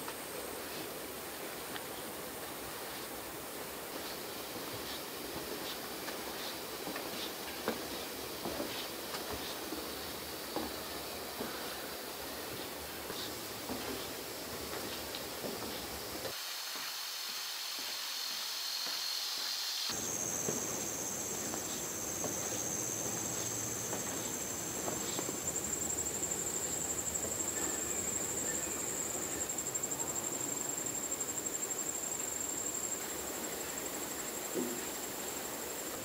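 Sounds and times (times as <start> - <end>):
faint outdoor hiss: 0.0 - 36.0
insects trilling: 0.0 - 36.0.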